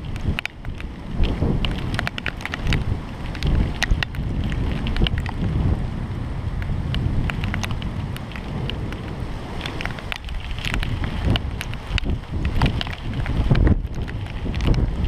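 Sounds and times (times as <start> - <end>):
rain falling: 0.0 - 15.0
raindrops ticking on microphone: 0.0 - 15.0
steady low rumble: 0.0 - 15.0.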